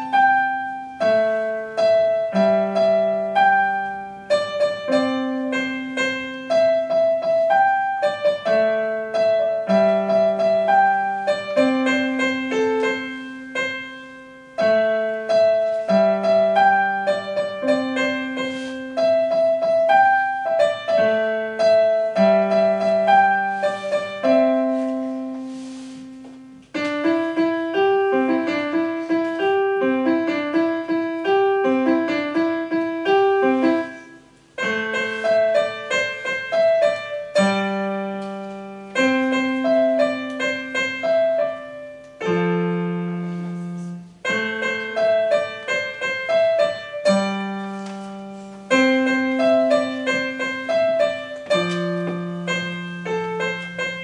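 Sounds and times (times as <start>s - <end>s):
electronic keyboard piano playing: 0.0s - 54.0s.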